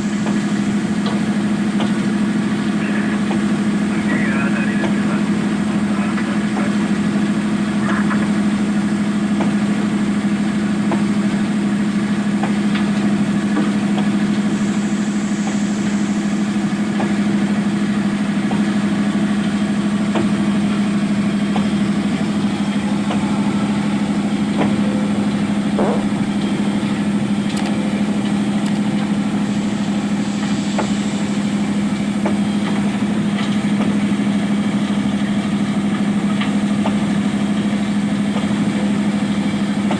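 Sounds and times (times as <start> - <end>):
heavy machine engine droning: 0.0 - 39.9.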